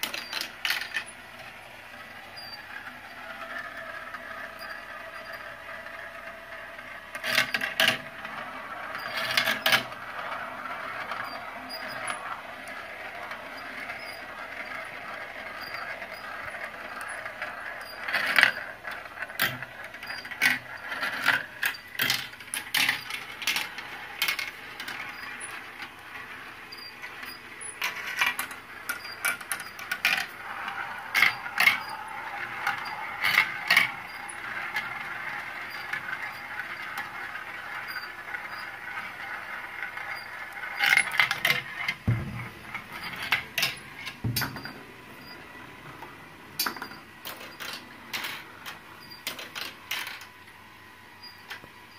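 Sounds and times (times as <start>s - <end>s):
marbles rolling on plastic tracks: 0.0s - 51.9s
marbles clacking on plastic: 2.6s - 46.0s.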